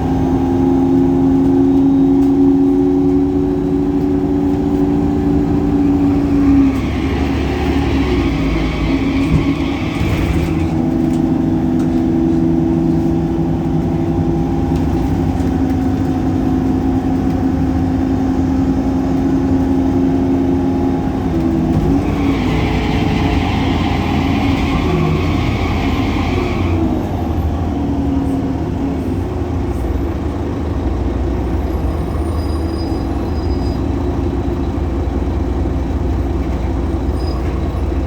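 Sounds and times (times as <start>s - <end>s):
bus diesel engine droning: 0.0s - 38.0s.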